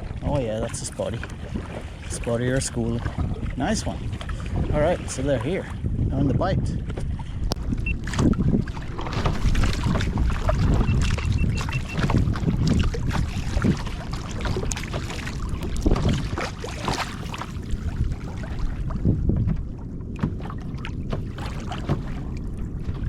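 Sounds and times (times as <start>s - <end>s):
water splashing around kayak: 0.0s - 23.0s
wind buffeting microphone: 0.0s - 23.0s.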